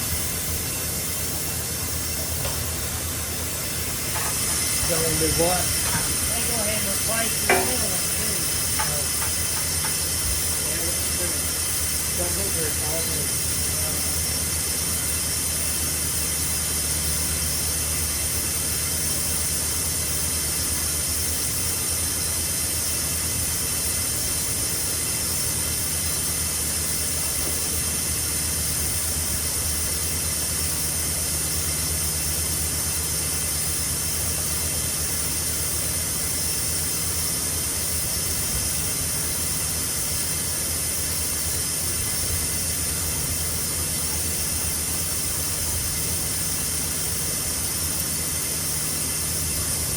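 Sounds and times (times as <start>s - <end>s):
low machine hum: 0.0s - 49.9s
machine hiss: 0.0s - 49.9s.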